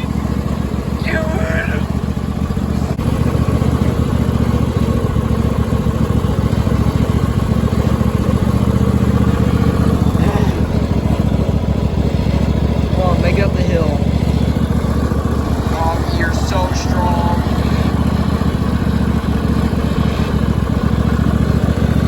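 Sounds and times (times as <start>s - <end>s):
lawn tractor engine rumbling: 0.0s - 22.0s.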